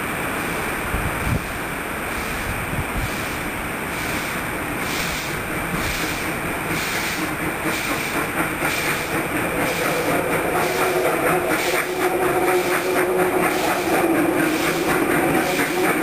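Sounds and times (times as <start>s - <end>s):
steam locomotive exhaust hissing: 0.0s - 16.0s
wheel and rail clatter: 0.1s - 16.0s.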